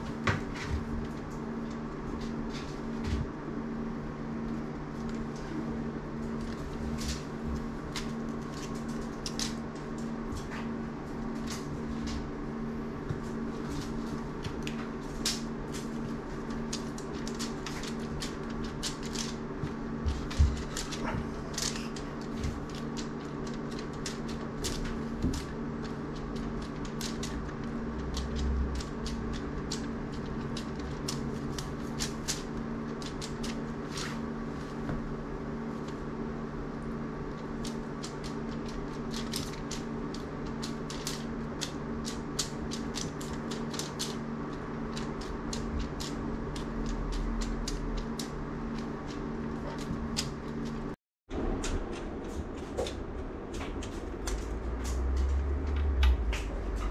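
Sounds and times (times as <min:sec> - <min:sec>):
steady room hum: 0:00.0 - 0:56.9
cat toy clicks and rustles: 0:04.3 - 0:51.0, 0:51.6 - 0:56.9.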